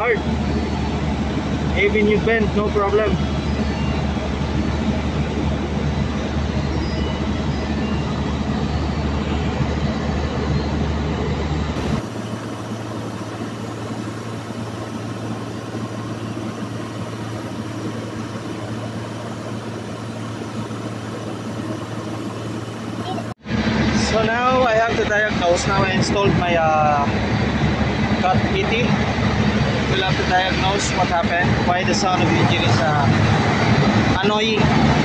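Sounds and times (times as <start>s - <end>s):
large diesel engine running: 0.0s - 35.0s.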